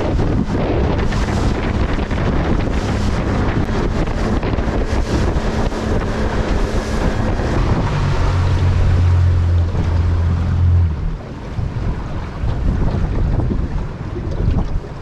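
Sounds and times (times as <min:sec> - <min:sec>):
boat motor humming: 0:00.0 - 0:15.0
water against boat hull: 0:00.0 - 0:15.0
wind on microphone: 0:00.0 - 0:15.0.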